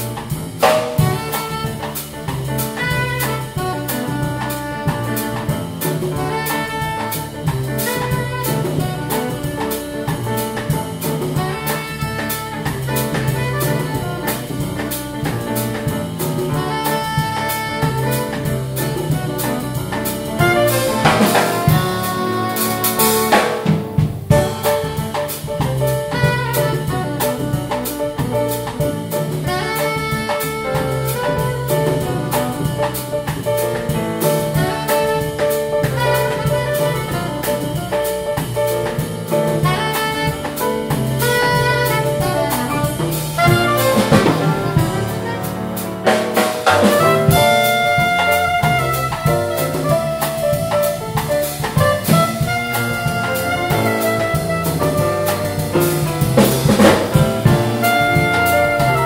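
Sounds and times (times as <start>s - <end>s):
jazz quartet playing: 0.0s - 59.0s
saxophone: 0.0s - 59.0s.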